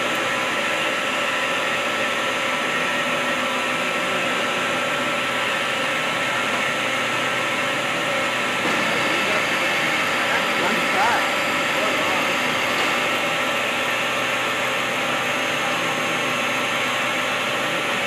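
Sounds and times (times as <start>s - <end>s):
lathe whirring hum: 0.0s - 18.0s.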